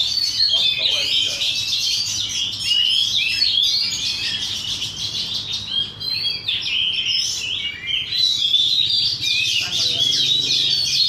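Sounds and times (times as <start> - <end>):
songbirds whistling and chirping: 0.0 - 11.0.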